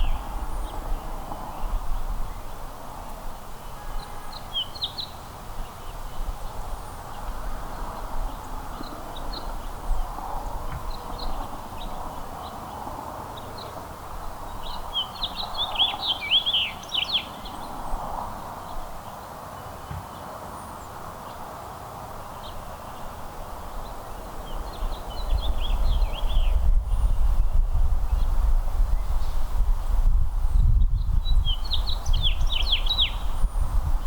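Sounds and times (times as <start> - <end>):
songbirds chirping: 0.0 - 29.4, 30.4 - 34.0
outdoor background hiss: 0.0 - 34.0.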